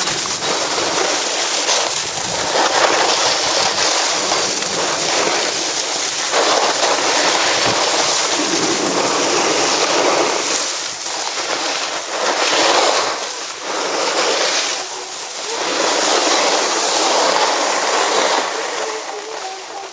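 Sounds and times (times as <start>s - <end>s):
snowboard scraping packed snow: 0.0s - 19.9s.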